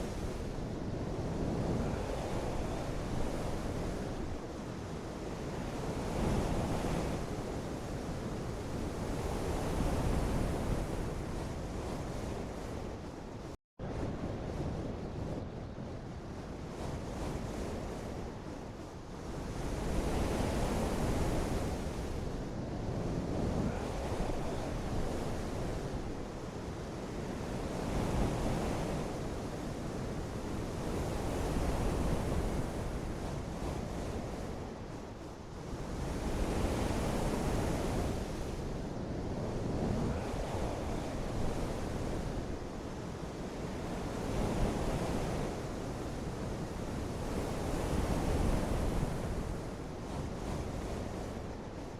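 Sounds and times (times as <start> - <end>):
wind: 0.0 - 51.9.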